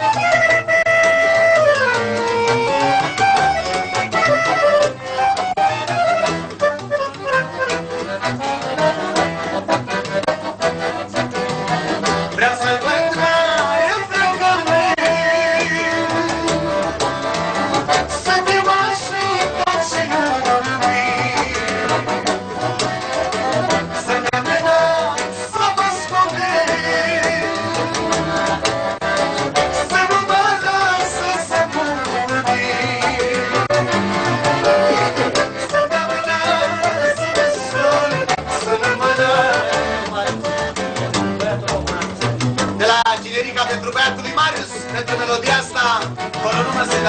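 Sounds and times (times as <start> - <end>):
piano accordion folk music: 0.0 - 47.0.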